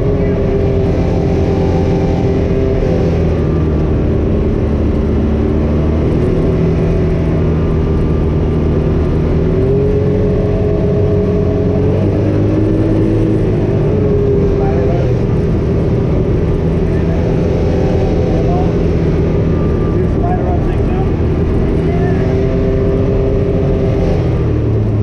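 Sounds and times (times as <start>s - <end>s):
car engine running: 0.0s - 25.0s
tyre and road noise: 0.0s - 25.0s.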